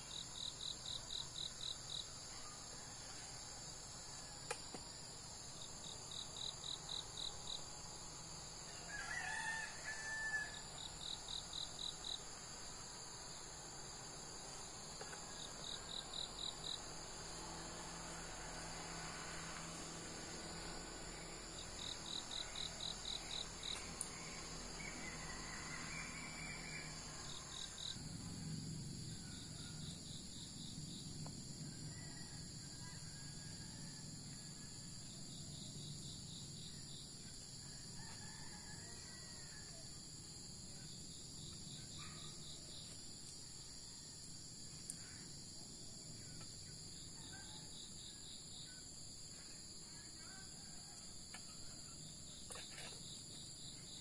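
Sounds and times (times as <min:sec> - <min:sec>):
crickets and insects trilling: 0:00.0 - 0:54.0.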